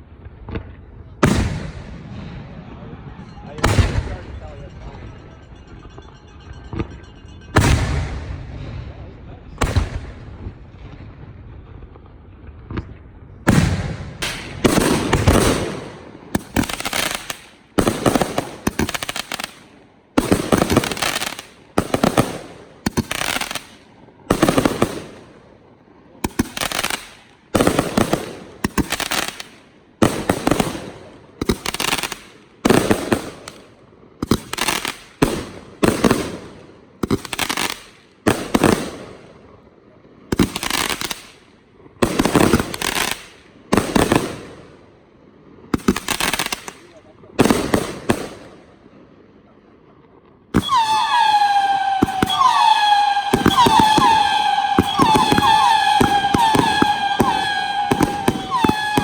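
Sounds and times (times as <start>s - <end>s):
fireworks crackling bursts: 0.0s - 5.4s, 6.6s - 45.0s, 45.7s - 48.8s, 50.5s - 59.0s.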